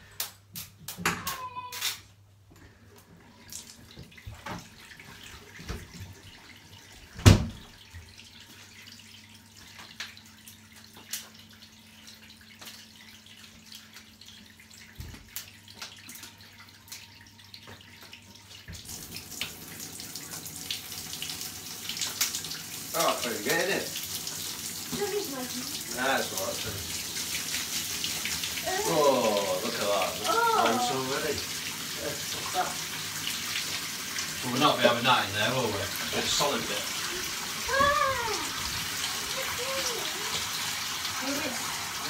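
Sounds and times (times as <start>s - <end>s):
tap running water into bath: 2.6s - 42.0s.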